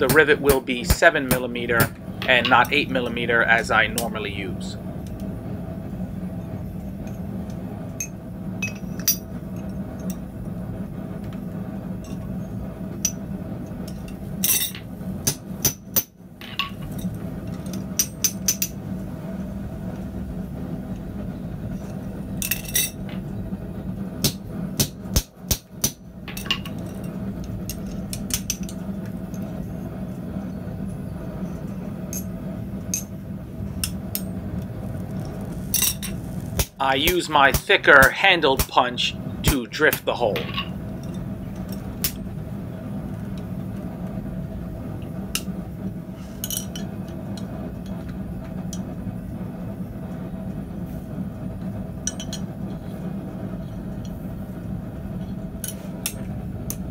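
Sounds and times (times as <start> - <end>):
low hum: 0.0 - 56.9.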